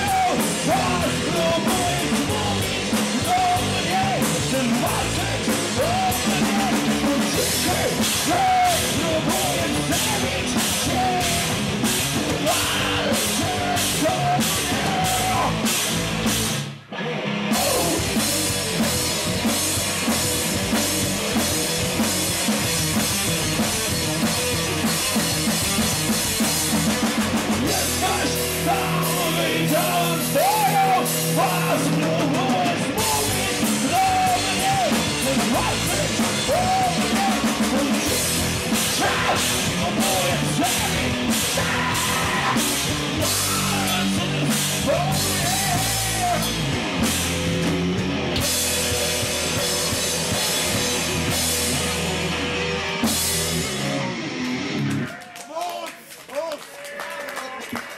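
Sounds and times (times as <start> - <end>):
drum kit: 0.0 - 55.1
bass guitar: 0.0 - 55.2
electric guitars: 0.0 - 55.3.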